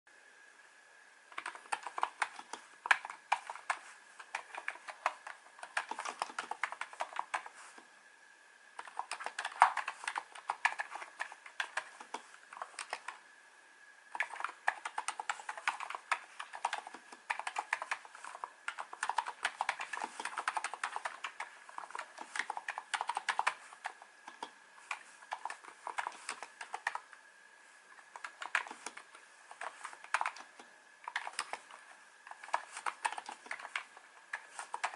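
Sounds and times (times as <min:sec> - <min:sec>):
faint high whine: 0:00.1 - 0:34.9
keyboard keystroke clicks: 0:01.4 - 0:07.5, 0:08.8 - 0:13.2, 0:14.2 - 0:27.0, 0:28.1 - 0:34.9.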